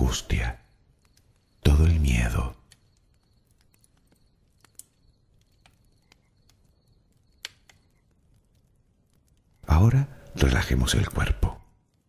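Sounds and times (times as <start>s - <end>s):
low hiss: 0.0s - 11.9s
bonfire crackling: 0.0s - 12.0s
sharp pops and snaps: 0.3s - 12.0s.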